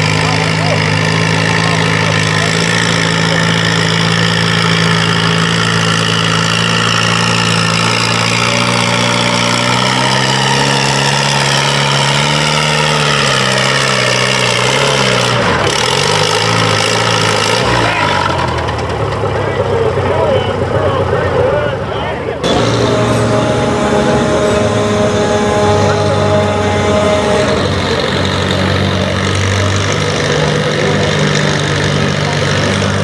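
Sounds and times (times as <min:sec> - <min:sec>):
tractor engine running hard: 0:00.0 - 0:33.0.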